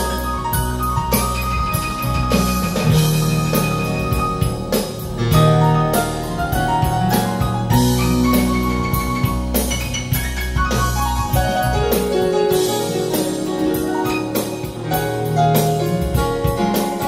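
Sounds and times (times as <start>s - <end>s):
instrumental music over loudspeakers: 0.0s - 17.0s.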